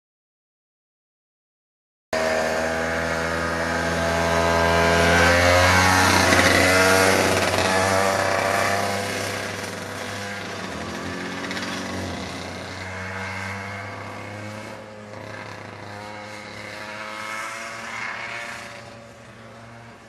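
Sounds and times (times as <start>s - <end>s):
kart engine passing by: 2.2s - 20.0s.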